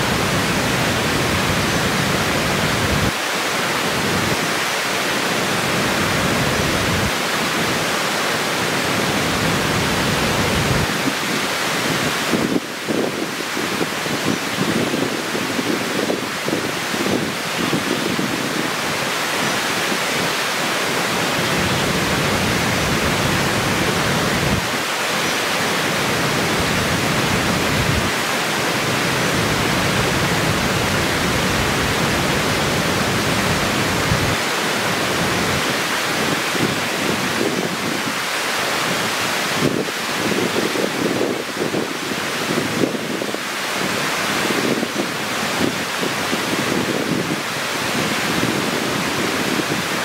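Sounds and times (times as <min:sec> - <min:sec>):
water rushing over rocks: 0:00.0 - 0:50.0.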